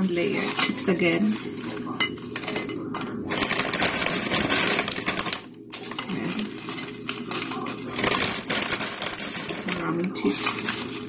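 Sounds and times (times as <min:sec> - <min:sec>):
tortilla chips crackling and rustling: 0:00.0 - 0:11.0.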